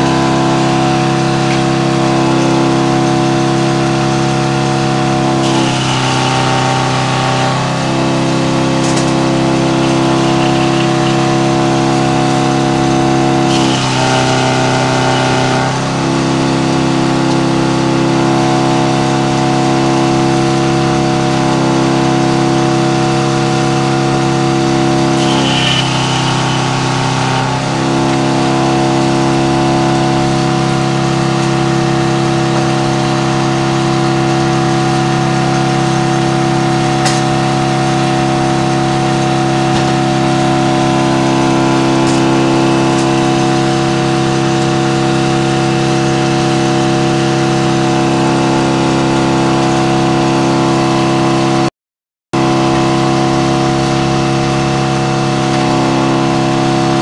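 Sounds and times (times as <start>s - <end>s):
sawmill engine running steadily: 0.0s - 51.7s, 52.4s - 57.0s.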